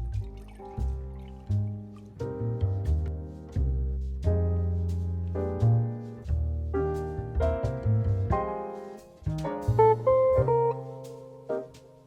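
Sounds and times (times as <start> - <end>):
plucked double bass: 0.0 - 11.8
piano chords: 0.0 - 12.0.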